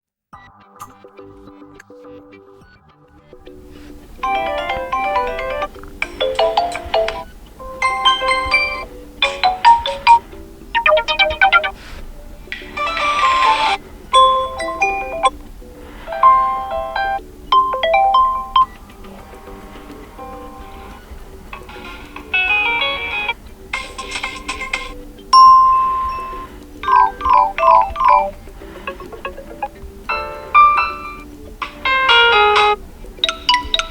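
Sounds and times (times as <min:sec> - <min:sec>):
bright mallet-like notes: 0:03.5 - 0:33.9
smartphone ringtone melodies: 0:03.5 - 0:33.9.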